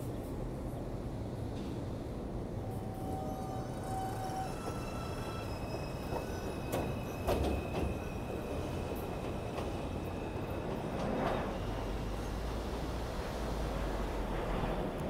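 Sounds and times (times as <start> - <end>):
subway train rumbling: 0.0 - 15.0
high train whine: 0.1 - 15.0.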